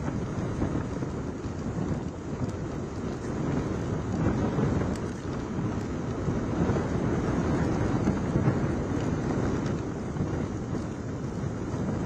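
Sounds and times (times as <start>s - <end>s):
heavy rain: 0.0s - 12.0s
wind buffeting microphone: 0.0s - 12.0s.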